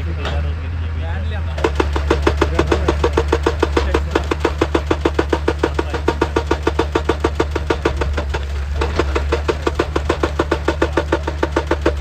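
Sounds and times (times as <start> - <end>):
diesel engine drone: 0.0 - 12.0
hydraulic rock breaker hammering: 1.5 - 12.0.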